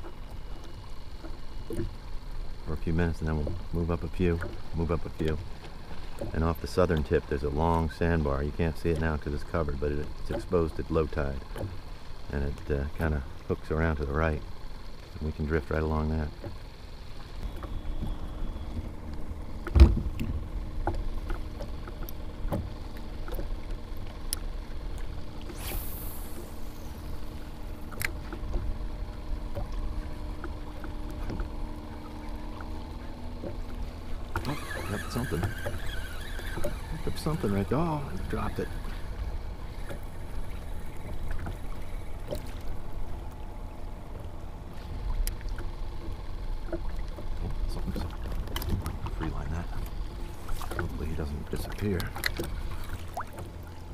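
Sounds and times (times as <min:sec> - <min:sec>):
faint ticks: 0:00.0 - 0:25.5, 0:26.1 - 0:43.4, 0:45.1 - 0:53.8
wind and water against hull: 0:00.0 - 0:53.9.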